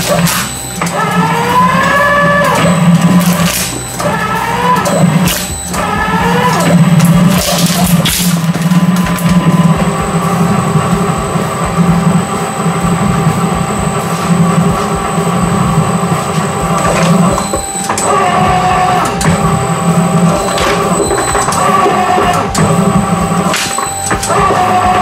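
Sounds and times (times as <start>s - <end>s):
shredder motor humming: 0.0s - 25.0s.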